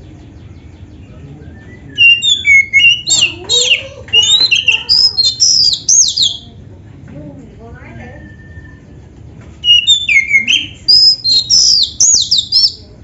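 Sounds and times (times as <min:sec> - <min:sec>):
songbird whistling song: 0:00.4 - 0:06.5, 0:08.0 - 0:09.0, 0:09.6 - 0:13.0.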